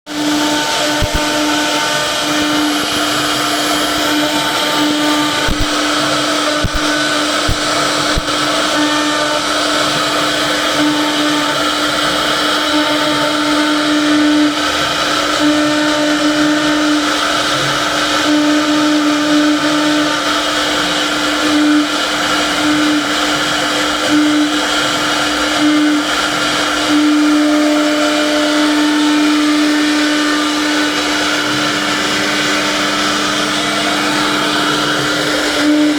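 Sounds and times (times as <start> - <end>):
router spindle cutting wood: 0.1 - 35.9.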